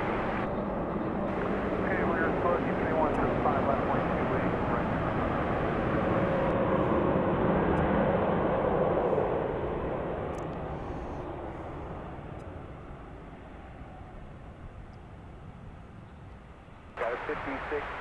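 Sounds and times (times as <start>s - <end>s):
jet engines roaring: 0.0s - 14.7s, 17.0s - 18.0s.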